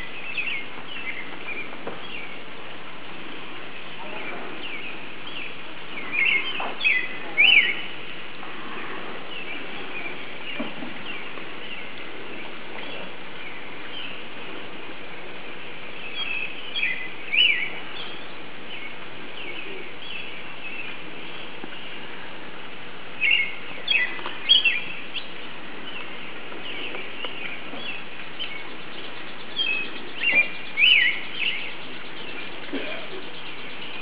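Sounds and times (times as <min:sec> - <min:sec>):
songbirds chirping: 0:00.0 - 0:34.0
steady background hiss: 0:00.0 - 0:34.0.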